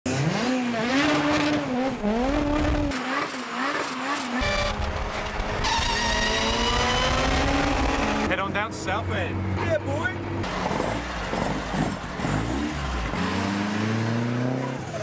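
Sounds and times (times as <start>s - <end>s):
car engine accelerating: 0.1s - 9.6s, 10.3s - 15.0s
car engine revving: 0.1s - 15.0s.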